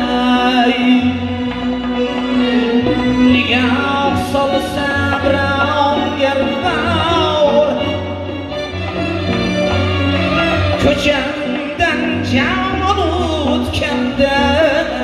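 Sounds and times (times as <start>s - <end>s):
bowed fiddle: 0.0s - 15.0s
keyboard: 0.0s - 15.0s
man singing: 0.0s - 15.0s.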